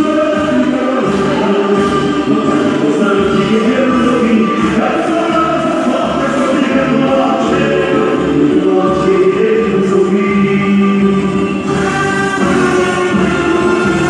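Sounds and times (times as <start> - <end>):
chorus singing over a beat: 0.0 - 14.0.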